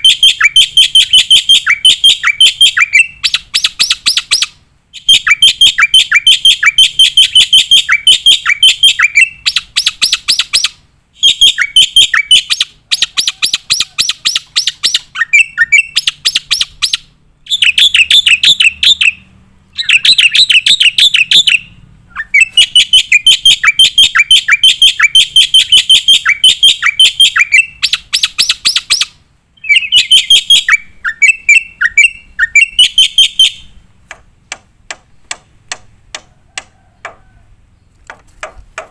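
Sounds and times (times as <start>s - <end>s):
starling singing rapid sharp notes: 0.0s - 38.7s.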